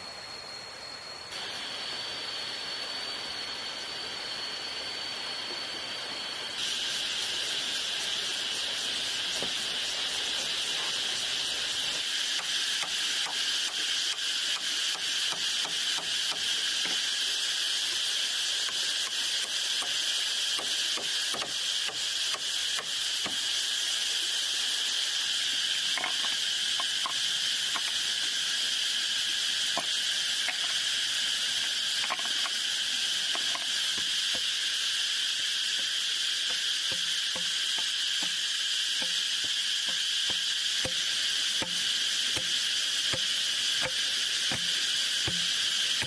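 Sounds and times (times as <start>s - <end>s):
insects buzzing: 0.0s - 46.0s.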